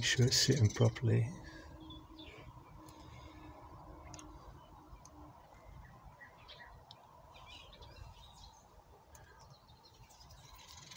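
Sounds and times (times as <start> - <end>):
faint bird chirps: 0.0 - 10.9.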